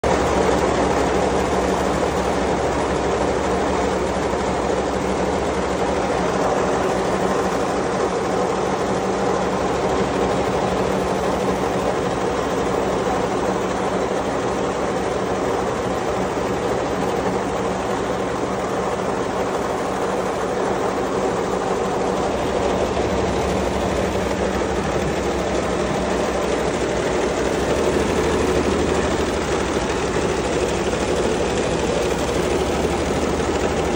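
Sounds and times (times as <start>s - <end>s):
embroidery machine rattling: 0.1s - 33.9s.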